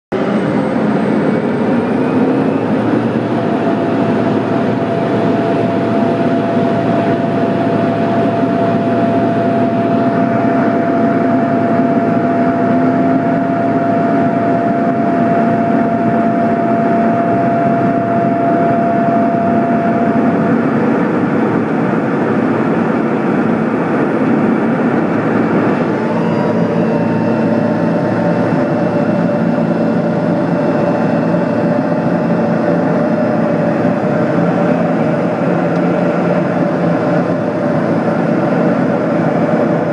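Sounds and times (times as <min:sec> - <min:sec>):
steady whine: 0:00.1 - 0:39.9
turboprop engine drone: 0:00.1 - 0:39.9.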